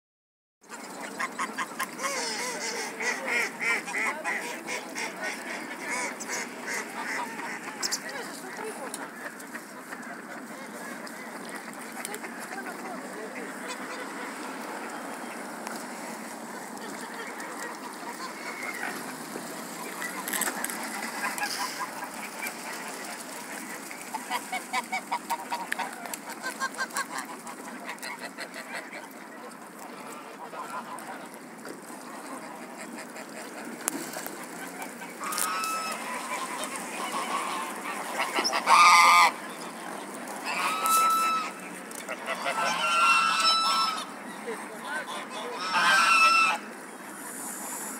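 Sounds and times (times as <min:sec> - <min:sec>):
other waterbirds calling: 0:00.6 - 0:47.9
geese honking and cackling: 0:00.7 - 0:31.4, 0:32.0 - 0:47.9.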